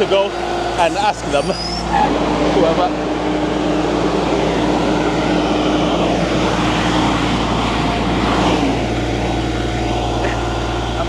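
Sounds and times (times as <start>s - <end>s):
concrete pump truck running: 0.0s - 11.0s.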